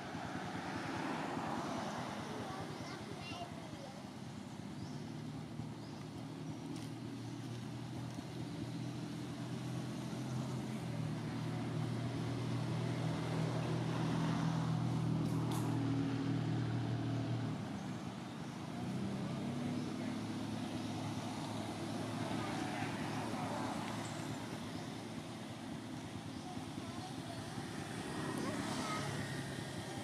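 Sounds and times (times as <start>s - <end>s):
passing vehicle engine hum: 0.0s - 30.0s.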